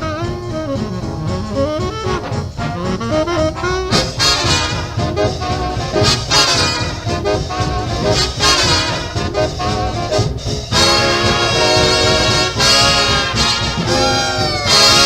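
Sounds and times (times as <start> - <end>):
swing jazz big band: 0.0 - 15.0.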